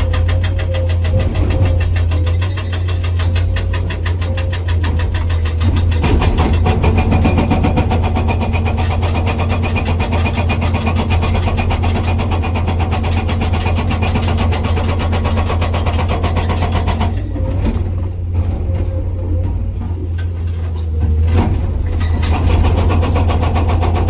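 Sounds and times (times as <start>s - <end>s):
diesel engine droning: 0.0s - 24.0s
hydraulic rock breaker hammering: 0.0s - 24.0s.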